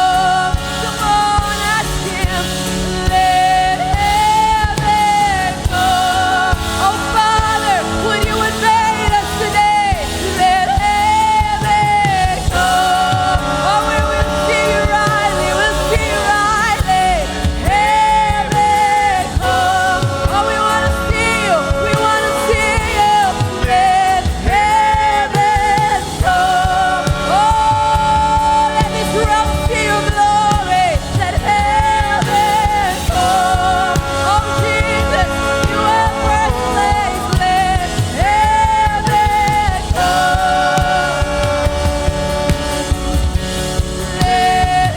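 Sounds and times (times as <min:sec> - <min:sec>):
band with steady beat: 0:00.0 - 0:44.9
person singing long notes: 0:00.0 - 0:44.9.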